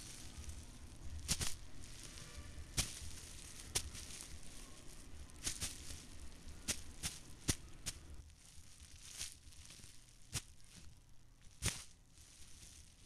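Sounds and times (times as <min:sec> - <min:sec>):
soil rustling: 0:00.0 - 0:13.0.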